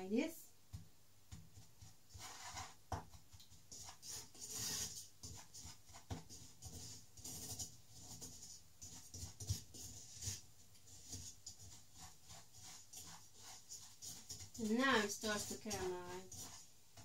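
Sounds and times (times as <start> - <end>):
wooden spoon scraping saucepan: 1.5 - 17.0.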